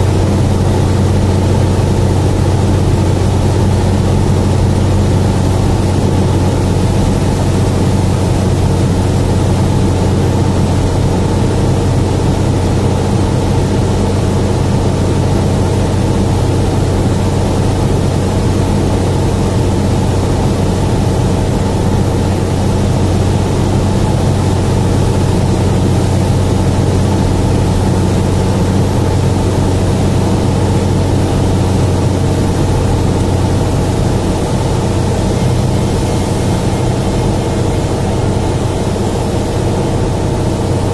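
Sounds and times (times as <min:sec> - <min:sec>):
aircraft cabin engine drone: 0:00.0 - 0:40.9.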